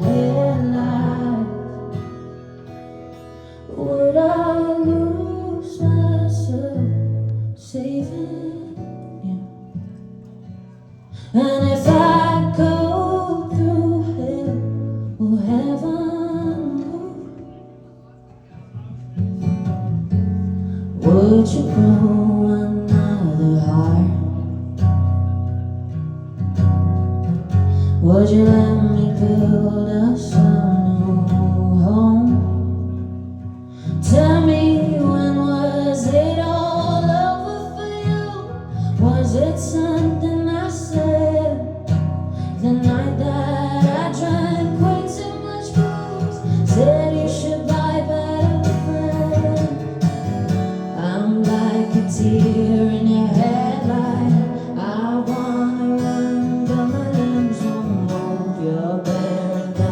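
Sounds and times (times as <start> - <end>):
woman singing: 0.0 - 9.9, 11.1 - 17.7, 20.8 - 24.8, 27.7 - 59.9
acoustic guitar: 0.0 - 59.9.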